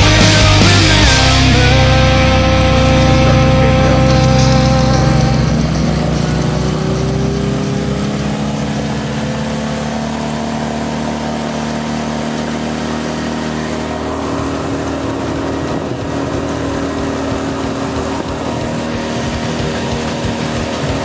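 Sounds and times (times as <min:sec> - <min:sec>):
outboard motor running: 0:00.0 - 0:21.0
rushing wake: 0:00.0 - 0:21.0
wind: 0:01.2 - 0:21.0.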